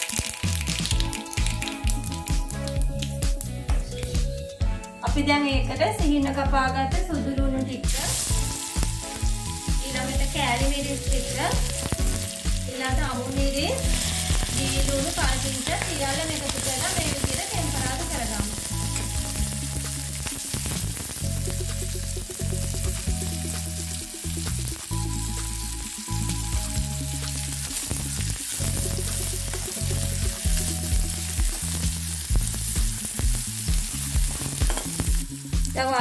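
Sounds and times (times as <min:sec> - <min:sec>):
food sizzling in hot oil: 0:00.0 - 0:03.2, 0:07.8 - 0:36.0
background music with bass: 0:00.0 - 0:36.0.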